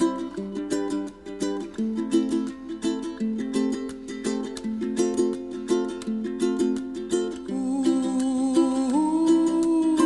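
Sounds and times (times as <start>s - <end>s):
ukulele strumming chords: 0.0s - 10.0s.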